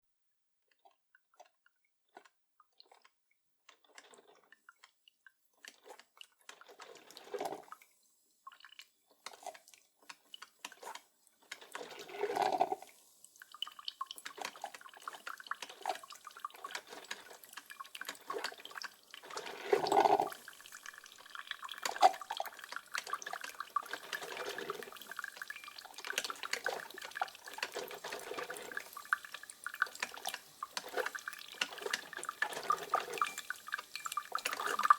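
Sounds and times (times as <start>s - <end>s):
coffee machine dripping and gurgling: 0.7s - 34.9s.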